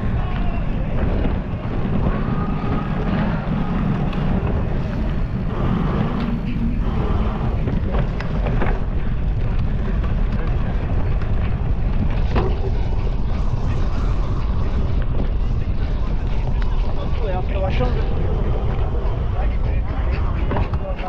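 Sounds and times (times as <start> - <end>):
bike rattles and knocks: 0.0 - 18.0, 19.3 - 21.0
wind rushing over microphone: 0.0 - 21.0.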